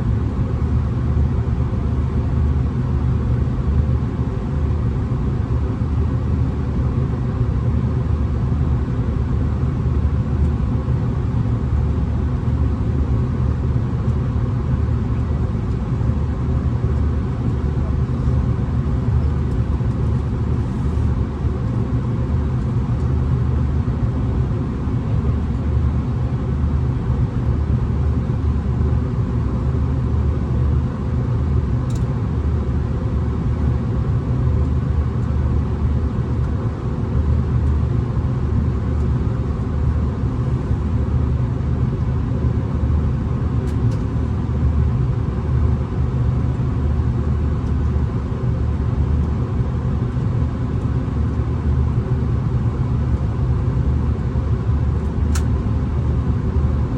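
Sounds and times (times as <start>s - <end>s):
diesel railcar rumble: 0.0s - 56.9s.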